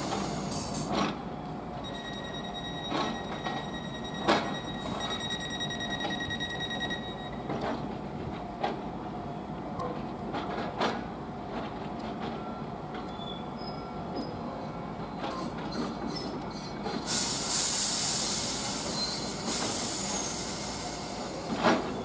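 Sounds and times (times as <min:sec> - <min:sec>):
electric train rumbling hum: 0:00.0 - 0:22.0.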